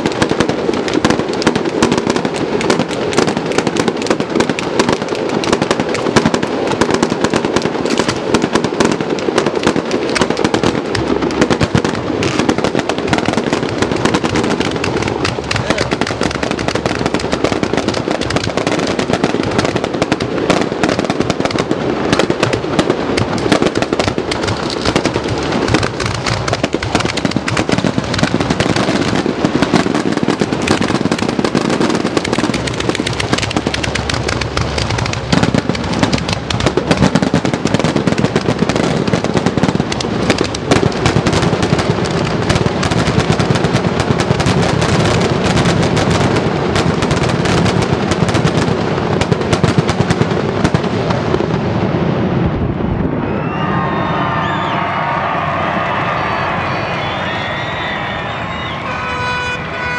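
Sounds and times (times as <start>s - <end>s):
fireworks launching and bursting: 0.0s - 59.9s.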